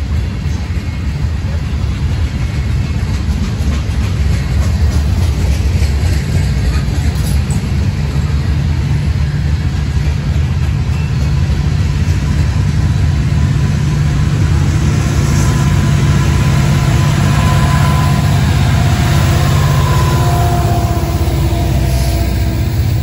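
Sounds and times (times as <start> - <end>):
freight train wheels rumbling on rail: 0.0 - 23.0
locomotive steady high tone: 0.0 - 23.0.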